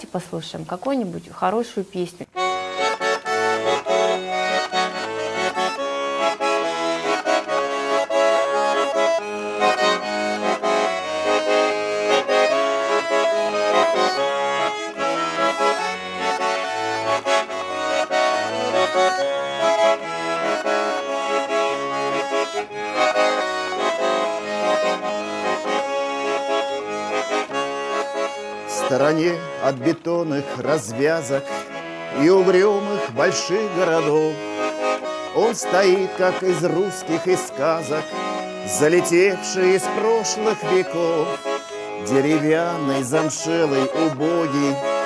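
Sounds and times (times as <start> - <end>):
accordion playing: 0.0 - 45.0.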